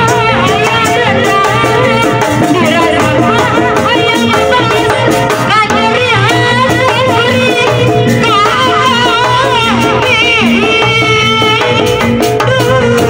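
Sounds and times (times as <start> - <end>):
drums and gongs beat: 0.0 - 13.0
wavering lead melody: 0.0 - 13.0.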